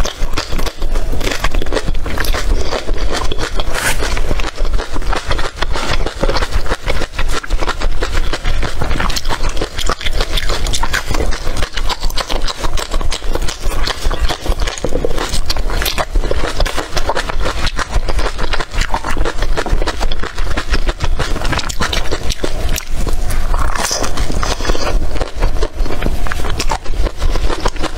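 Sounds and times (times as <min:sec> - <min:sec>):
chewing crunches: 0:00.0 - 0:27.9.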